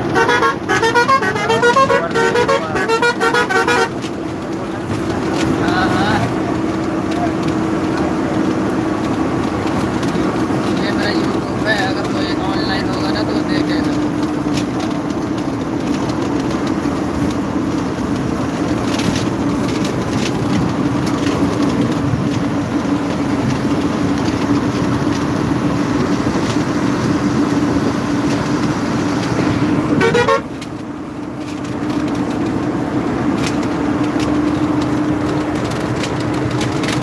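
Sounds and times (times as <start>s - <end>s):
moving train rumble: 0.0s - 37.0s.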